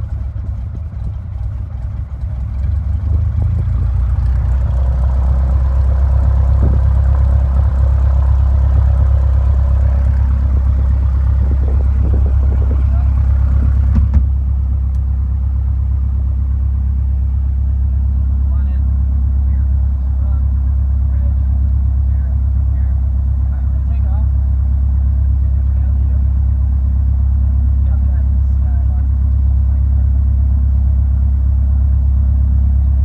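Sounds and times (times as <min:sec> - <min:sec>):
light aircraft engine droning: 0:00.0 - 0:33.0.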